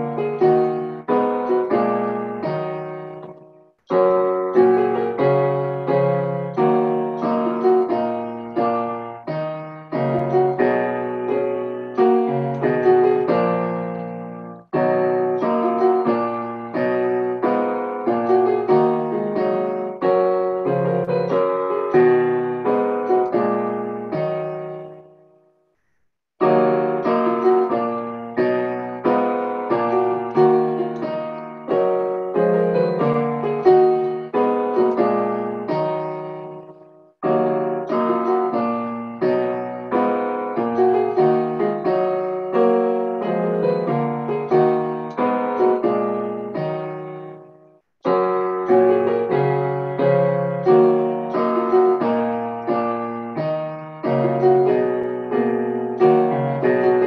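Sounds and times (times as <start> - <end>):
piano playing hymn chords: 0.0 - 25.4, 26.4 - 57.0.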